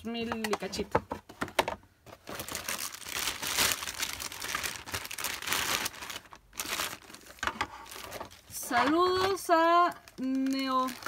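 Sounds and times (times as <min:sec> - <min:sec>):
plastic bag crinkling: 0:02.1 - 0:11.0.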